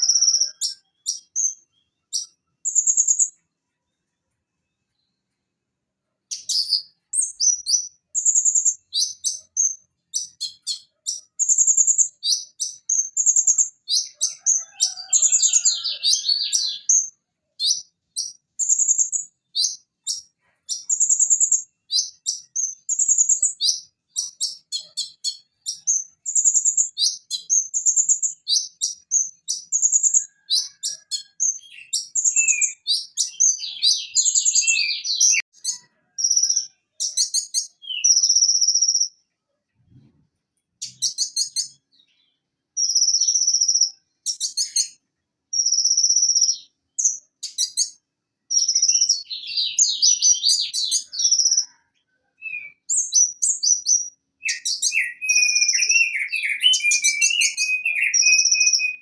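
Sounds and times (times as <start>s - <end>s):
bird high-pitched chirps and trills: 0.0s - 5.4s, 6.2s - 40.1s, 40.7s - 59.0s.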